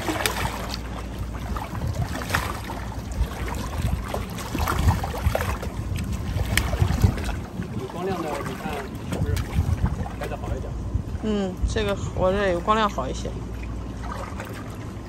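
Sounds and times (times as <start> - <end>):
water splashing and churning: 0.0 - 15.0
wind rumble on microphone: 0.0 - 15.0.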